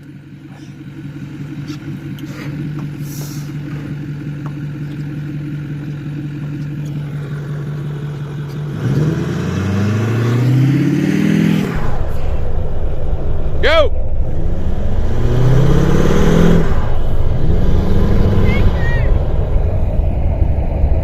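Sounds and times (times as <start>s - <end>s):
pickup engine idling and revving: 0.0s - 21.0s.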